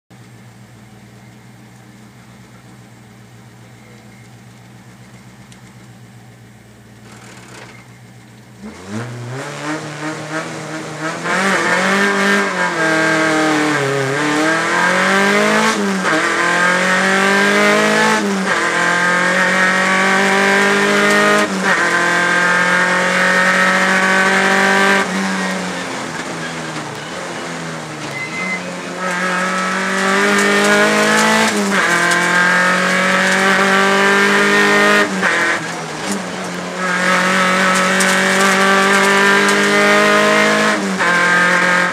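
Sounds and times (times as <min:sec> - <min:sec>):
rally car engine revving: 0:06.8 - 0:41.9.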